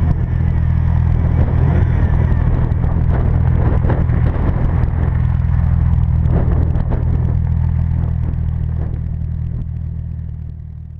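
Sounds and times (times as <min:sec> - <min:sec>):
car engines rumbling: 0:00.0 - 0:10.9.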